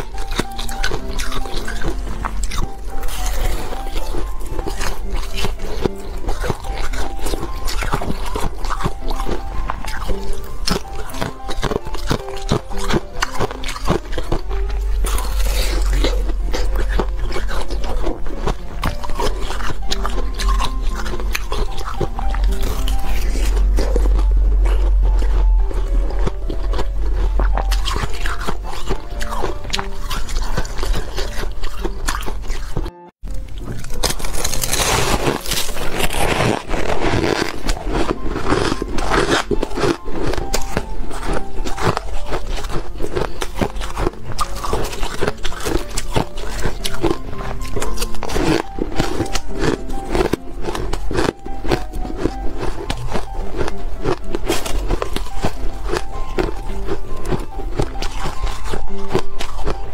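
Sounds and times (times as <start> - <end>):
background music: 0.0 - 59.9
chewing: 0.0 - 59.9
ice crunching between teeth: 0.0 - 59.9.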